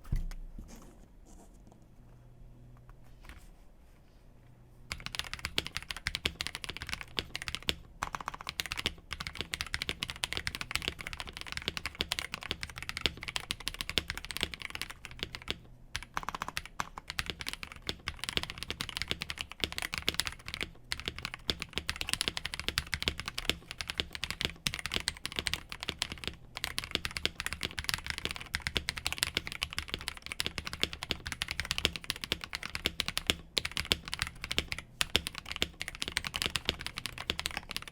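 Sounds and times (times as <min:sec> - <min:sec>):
mechanical keyboard typing: 0:04.9 - 0:37.9.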